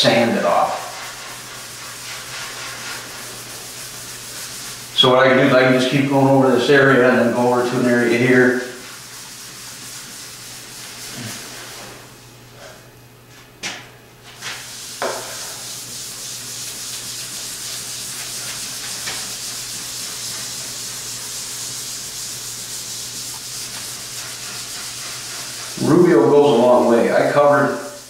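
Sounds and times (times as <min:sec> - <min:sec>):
abrasive pad scrubbing wood: 0:00.0 - 0:12.1, 0:14.4 - 0:28.0.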